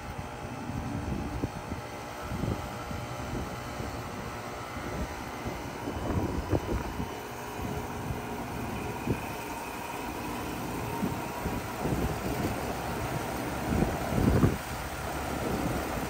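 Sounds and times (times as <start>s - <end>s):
heat pump humming: 0.0s - 16.0s
wind buffeting microphone: 0.0s - 16.0s.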